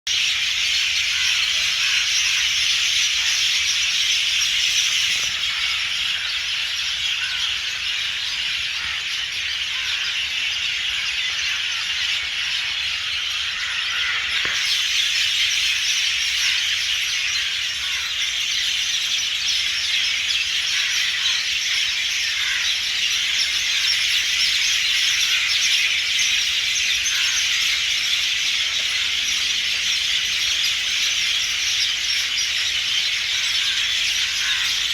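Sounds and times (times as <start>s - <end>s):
chorus of birds chattering: 0.1s - 34.9s.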